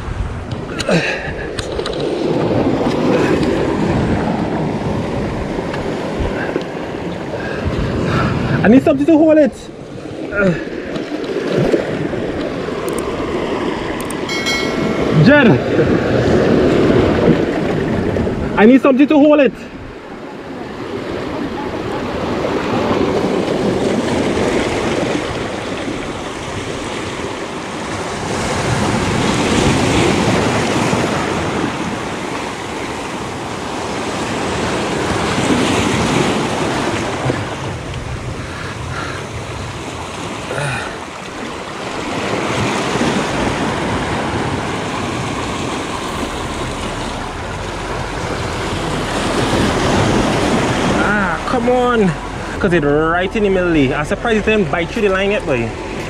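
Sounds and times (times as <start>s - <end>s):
surf washing over rocks: 0.0s - 56.0s.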